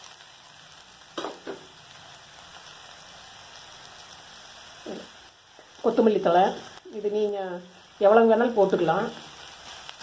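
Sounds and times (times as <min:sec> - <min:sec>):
food sizzling in an oiled pan: 0:00.0 - 0:10.0.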